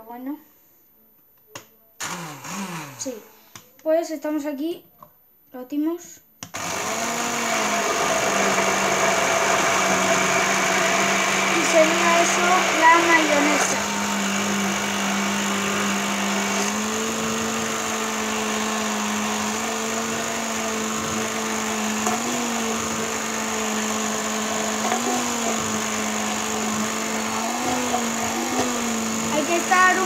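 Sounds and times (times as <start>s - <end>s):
hand blender running: 2.0s - 3.1s, 6.5s - 30.0s.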